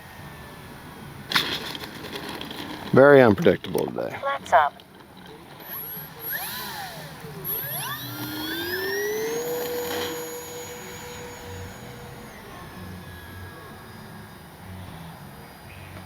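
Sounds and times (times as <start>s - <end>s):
model plane motor whining: 0.0s - 3.5s, 4.5s - 16.0s.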